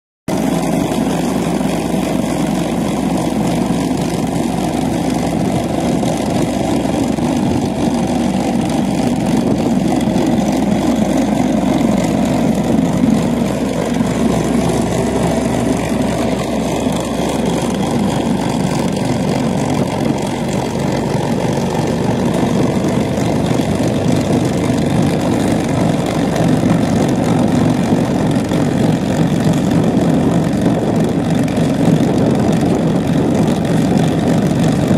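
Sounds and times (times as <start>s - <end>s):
tractor engine running under load: 0.3s - 34.9s.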